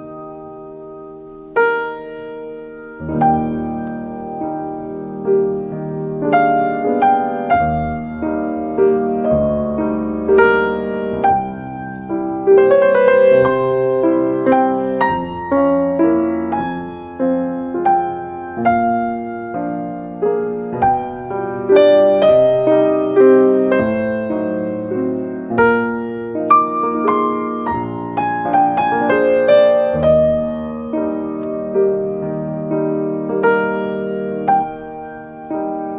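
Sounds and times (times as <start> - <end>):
slow solo piano: 0.0 - 35.9.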